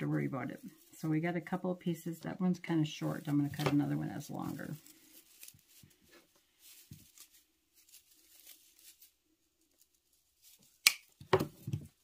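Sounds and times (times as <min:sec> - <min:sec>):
rustling of artificial garland: 0:00.0 - 0:12.0.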